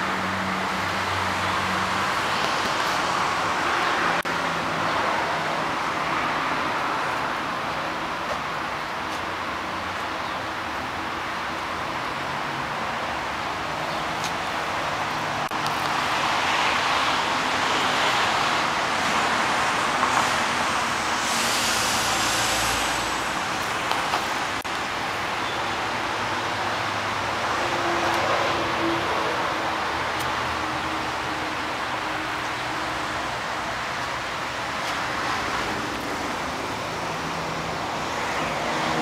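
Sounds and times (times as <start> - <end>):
motor vehicle road and engine noise: 0.0 - 39.0.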